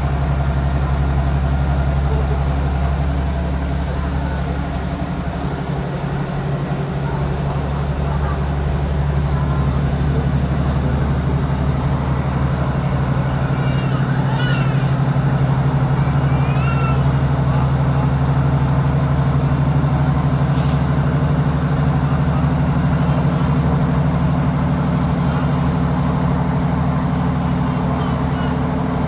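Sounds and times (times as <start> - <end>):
diesel engine drone: 0.0 - 29.0
wheels on rail running noise: 0.0 - 29.0.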